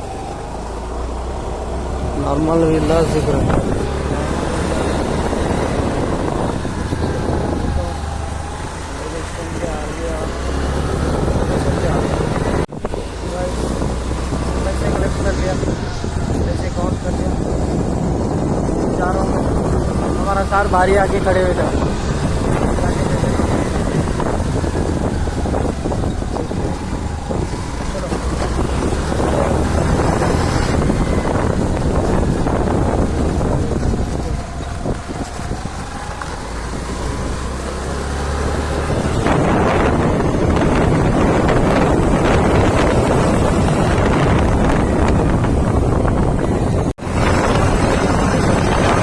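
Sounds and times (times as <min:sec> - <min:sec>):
vehicle road and engine noise: 0:00.0 - 0:49.0
wind buffeting microphone: 0:00.0 - 0:49.0.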